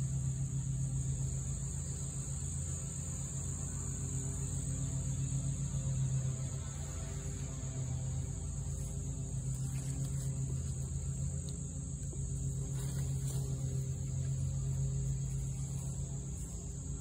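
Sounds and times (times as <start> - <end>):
insects chirring: 0.0 - 17.0
low hum: 0.0 - 17.0.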